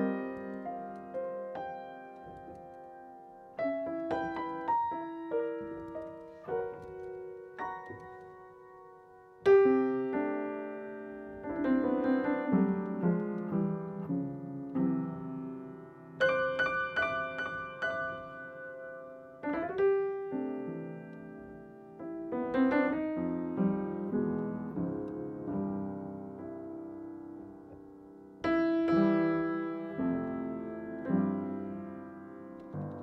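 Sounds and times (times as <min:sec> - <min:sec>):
piano playing jazz chords: 0:00.0 - 0:33.0.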